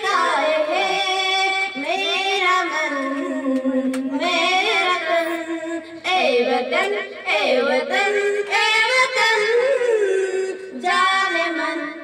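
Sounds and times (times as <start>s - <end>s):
girls singing into microphone: 0.0s - 12.0s.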